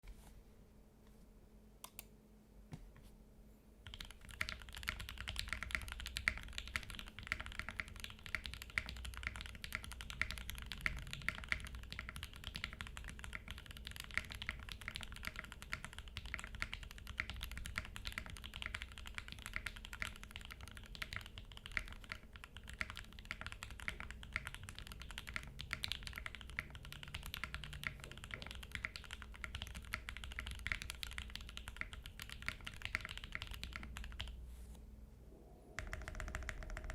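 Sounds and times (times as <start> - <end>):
mechanical keyboard typing: 3.8 - 34.4, 35.8 - 36.9.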